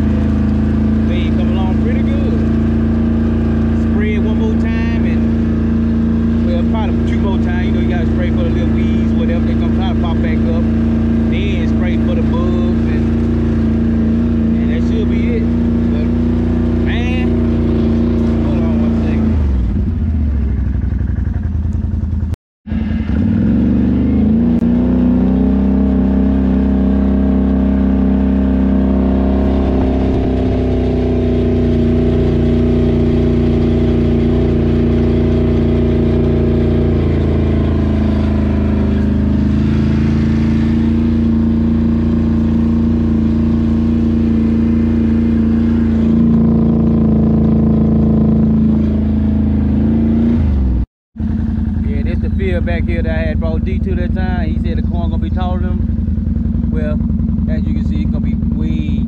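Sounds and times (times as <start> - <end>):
loud motorbike engine running: 0.0 - 59.0.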